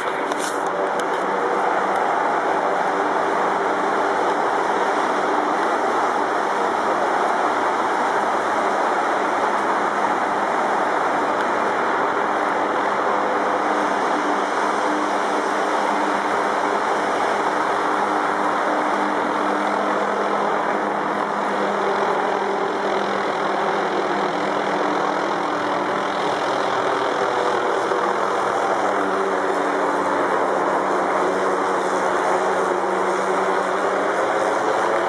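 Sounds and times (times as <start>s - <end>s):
helicopter engine drone: 0.0s - 35.0s.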